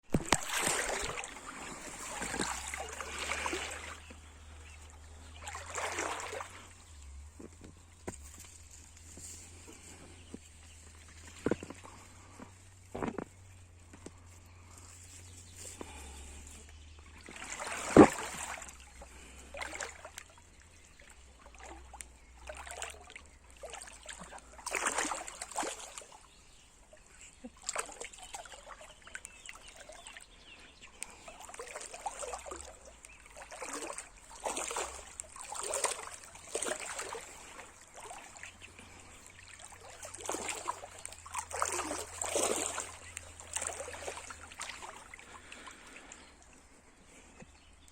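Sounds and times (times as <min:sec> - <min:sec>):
river water splashing: 0:00.0 - 0:47.9.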